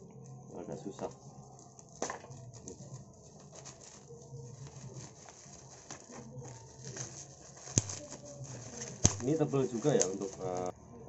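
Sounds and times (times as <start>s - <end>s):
scissors cutting bubble wrap: 0.2s - 10.7s.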